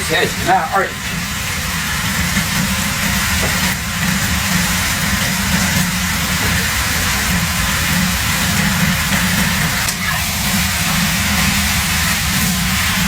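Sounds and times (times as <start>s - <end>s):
wok burner rumble and hiss: 0.0s - 13.0s.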